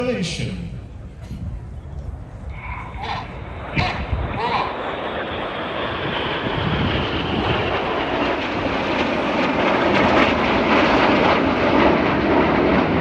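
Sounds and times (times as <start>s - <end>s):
jet engines flying past: 0.0s - 13.0s.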